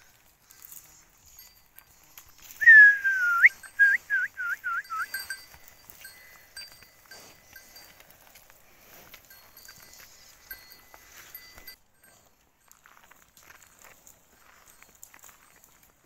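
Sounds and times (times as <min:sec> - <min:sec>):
cowbell clinking: 0:00.4 - 0:16.0.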